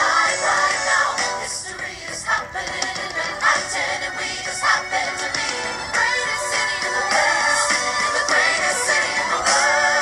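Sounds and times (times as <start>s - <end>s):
voices singing: 0.0s - 10.0s.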